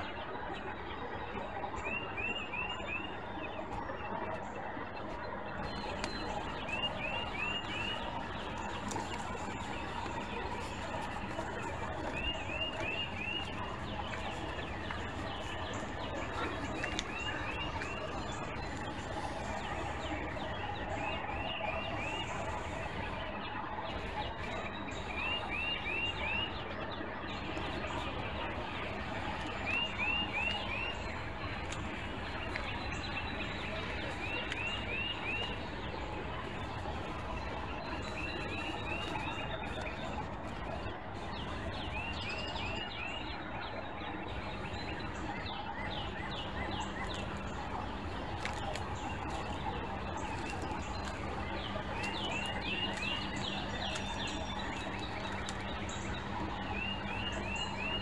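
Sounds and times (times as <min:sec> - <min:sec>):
low steady hum: 0:00.0 - 0:58.0
other birds chirping: 0:05.6 - 0:58.0.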